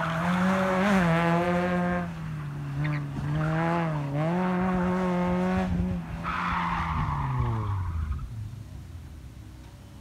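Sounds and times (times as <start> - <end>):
rally car engine revving: 0.0 - 8.3.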